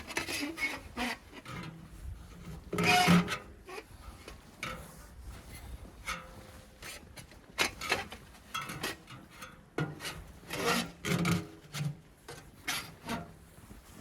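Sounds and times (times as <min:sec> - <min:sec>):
scraping strokes: 0:00.0 - 0:14.0.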